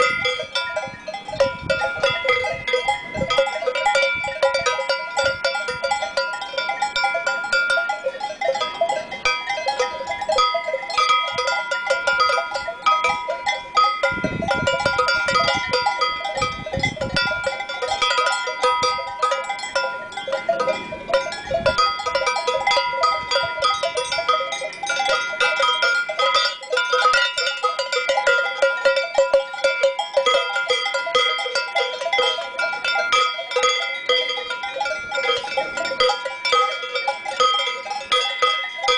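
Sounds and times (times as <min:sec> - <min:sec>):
cowbells clanging: 0:00.0 - 0:38.9.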